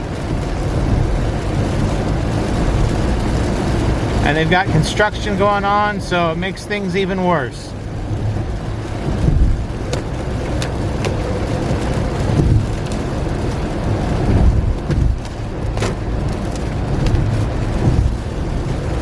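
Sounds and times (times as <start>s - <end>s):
rain and tyre spray hiss: 0.0s - 19.0s
road rumble inside car: 0.0s - 19.0s.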